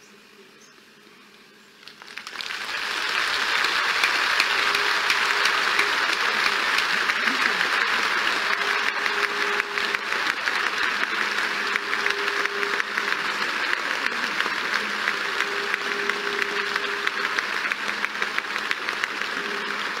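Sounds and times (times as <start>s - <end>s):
stadium crowd applauding: 1.8s - 20.0s.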